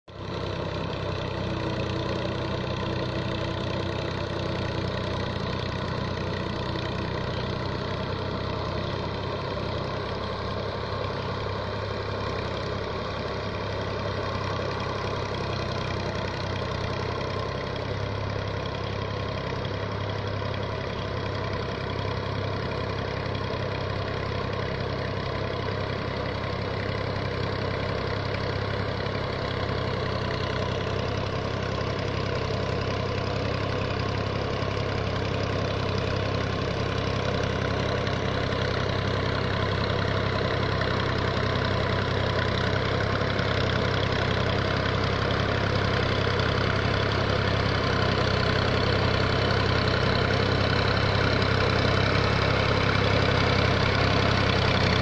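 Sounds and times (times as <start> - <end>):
tractor diesel engine droning: 0.1 - 55.0.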